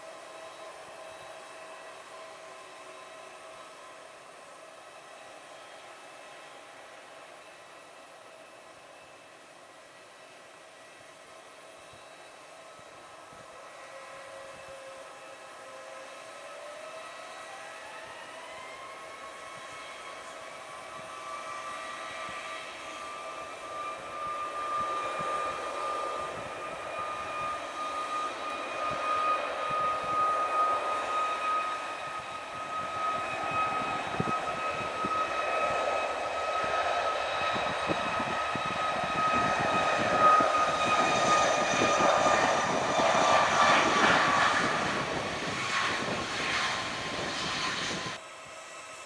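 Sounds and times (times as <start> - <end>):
airliner engines whining: 0.0 - 49.0.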